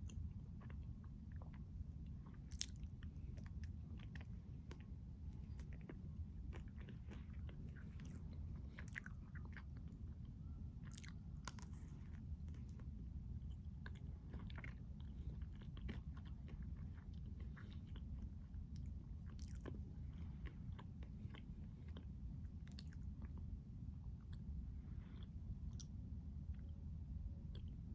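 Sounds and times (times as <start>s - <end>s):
chewing crunches: 0.0s - 23.5s
steady low hum: 0.0s - 27.9s.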